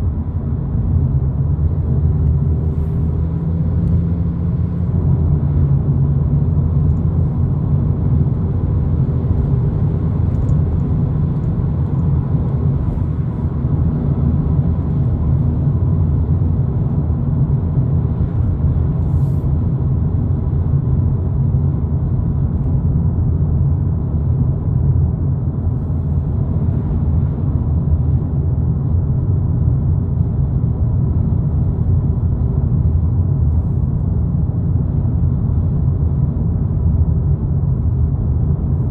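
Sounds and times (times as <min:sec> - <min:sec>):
car engine rumble from inside: 0:00.0 - 0:38.9.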